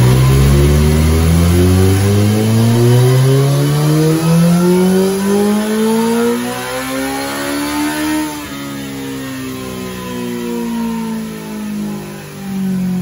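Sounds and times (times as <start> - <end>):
motorcycle engine pulling on dyno: 0.0 - 13.0.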